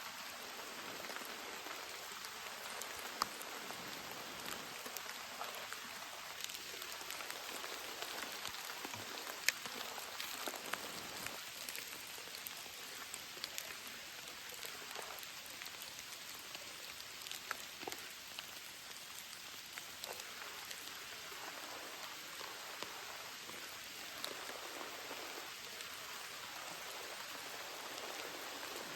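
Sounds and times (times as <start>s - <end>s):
rain drops pattering: 0.0s - 28.9s.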